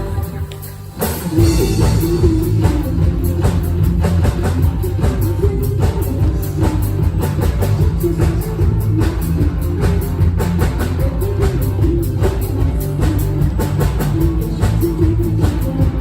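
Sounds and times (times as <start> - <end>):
bass guitar: 0.0 - 16.0
drum kit beat: 0.0 - 16.0
electric guitar: 0.0 - 16.0.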